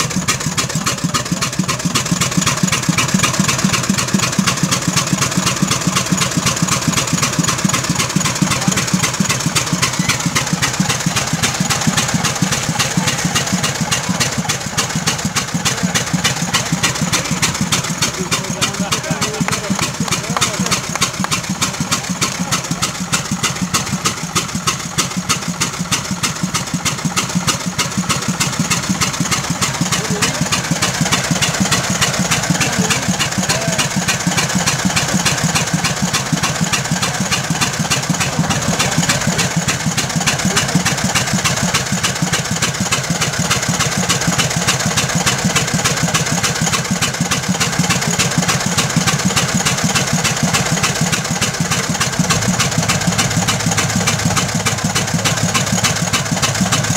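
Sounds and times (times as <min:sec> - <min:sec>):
old gasoline engine running: 0:00.0 - 0:56.9.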